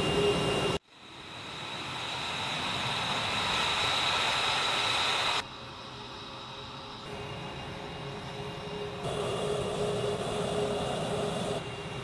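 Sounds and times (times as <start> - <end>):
jet engines whining: 0.0 - 12.0.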